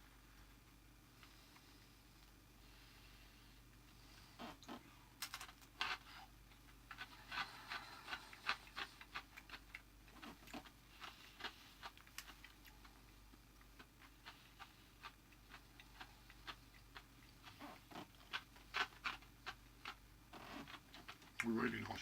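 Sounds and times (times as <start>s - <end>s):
crunching pretzel sticks: 4.4s - 22.0s.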